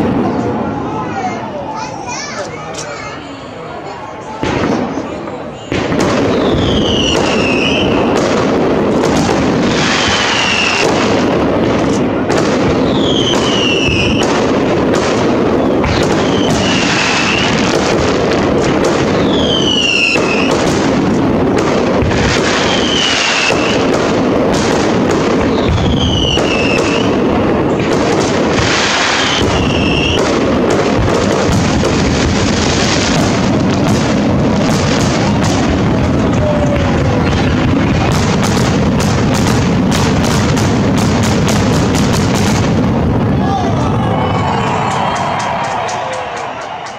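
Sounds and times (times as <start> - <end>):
fireworks crackling and rumbling: 0.0 - 46.9
sharp firework bangs: 4.4 - 46.9.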